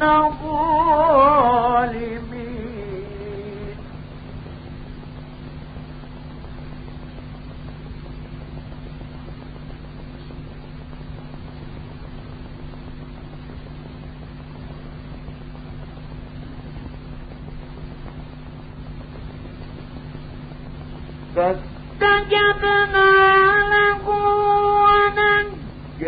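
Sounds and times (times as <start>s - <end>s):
low even hum: 0.0s - 26.0s
recording hiss: 0.0s - 26.0s.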